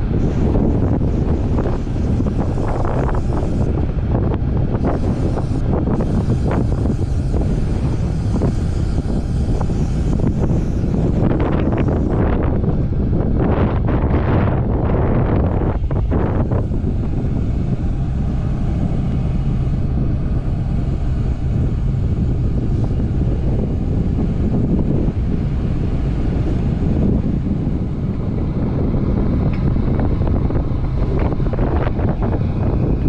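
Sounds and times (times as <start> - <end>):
engine running: 0.0 - 33.0
wind buffeting microphone: 0.0 - 33.0.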